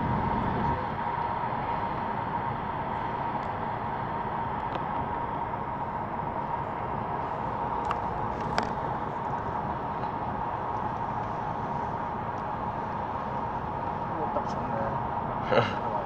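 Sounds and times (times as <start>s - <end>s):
constant high hum: 0.0s - 16.0s
road and wind noise in car: 0.0s - 16.0s.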